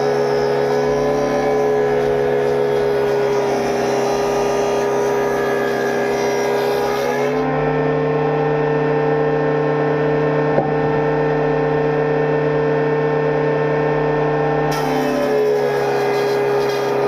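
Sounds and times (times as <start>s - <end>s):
woodworking machine running: 0.0s - 17.0s.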